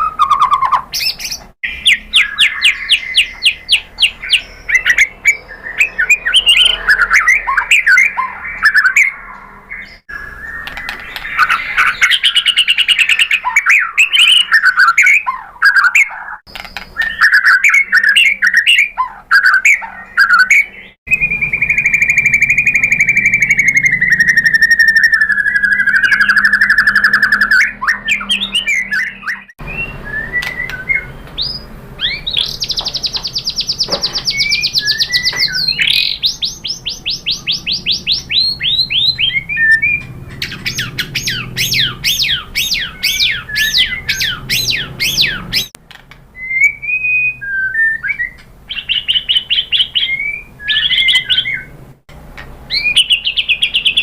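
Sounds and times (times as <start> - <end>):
bird singing whistles and trills: 0.0 - 45.8, 46.4 - 51.7, 52.7 - 54.0.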